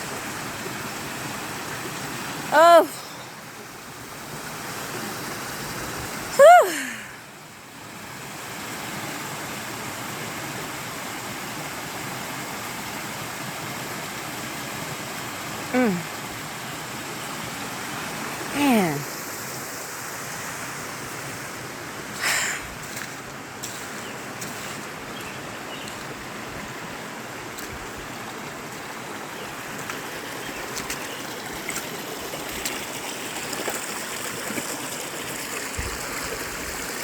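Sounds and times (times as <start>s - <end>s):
stream water flowing over rocks: 0.0s - 37.0s.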